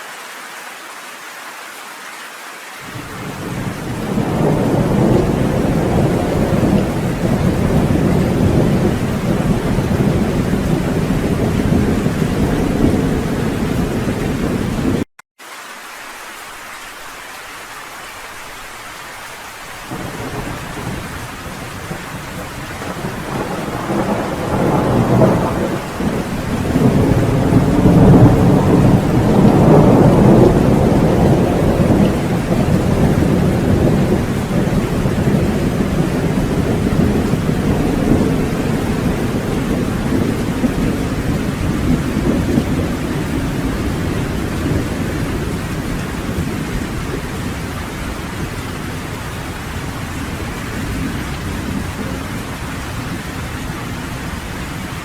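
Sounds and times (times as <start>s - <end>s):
steady rain: 0.0s - 55.0s
rolling thunder: 2.9s - 15.0s, 19.8s - 55.0s.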